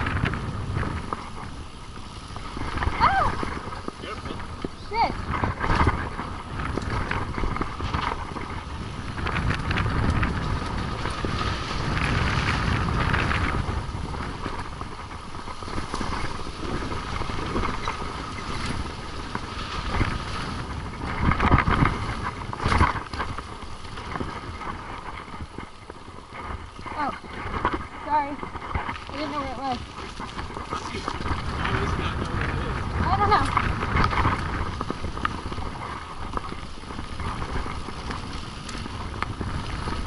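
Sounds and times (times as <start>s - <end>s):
bike rattling over bumps: 0.0s - 40.0s
tyre noise on dirt: 0.0s - 40.0s
wind rushing over microphone: 0.0s - 40.0s.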